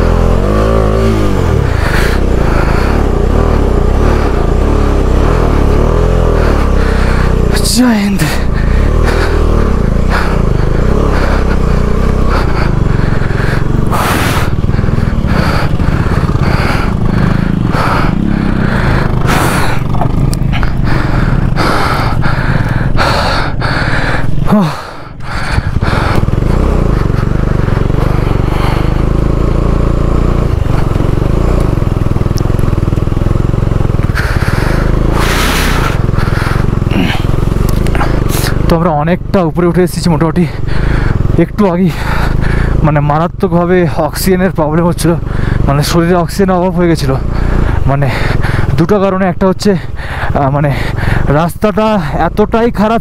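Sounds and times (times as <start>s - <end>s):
motorcycle engine rumbling: 0.0s - 53.0s.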